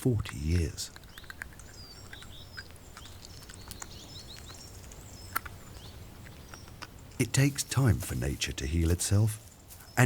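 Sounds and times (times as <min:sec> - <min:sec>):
low steady background noise: 0:00.0 - 0:10.0
small birds chirping: 0:00.0 - 0:10.0.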